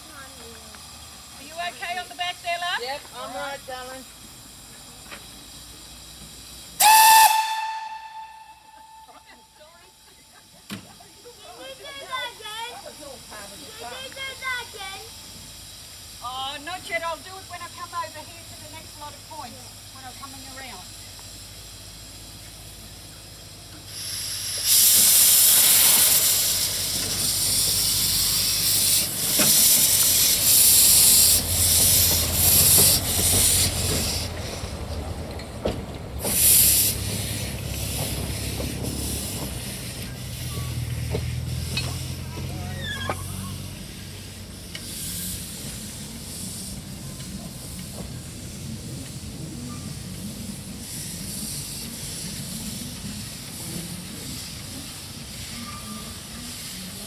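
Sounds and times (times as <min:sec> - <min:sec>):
steam hissing: 0:00.0 - 0:57.0
steam locomotive rumble: 0:00.0 - 0:57.0.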